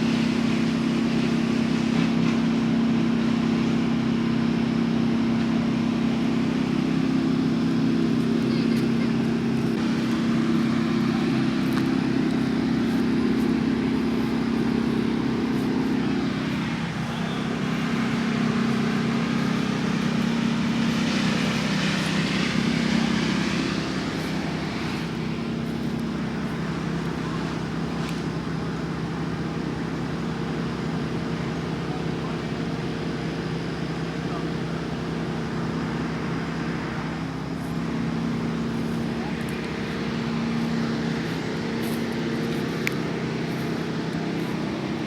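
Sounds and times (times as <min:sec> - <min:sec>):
vehicle engine drone with road noise: 0:00.0 - 0:45.0.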